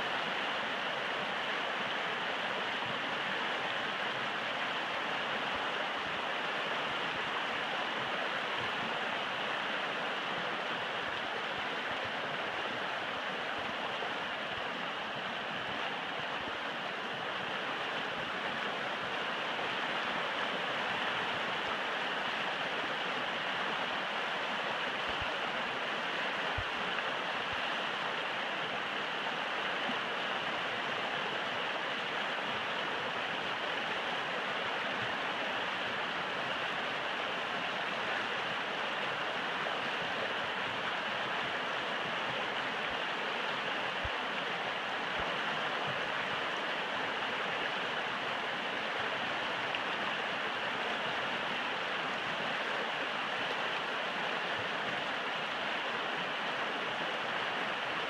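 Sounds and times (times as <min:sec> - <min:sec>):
river rushing over stones: 0:00.0 - 0:58.0.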